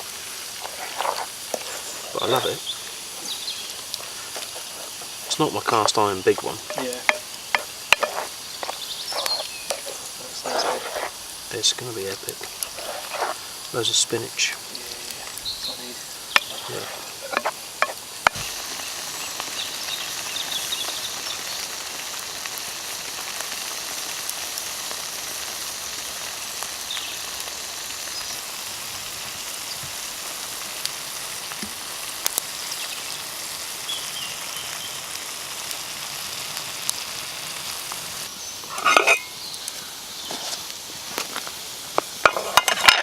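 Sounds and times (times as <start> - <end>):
spinach sizzling in a pan: 0.0 - 43.0.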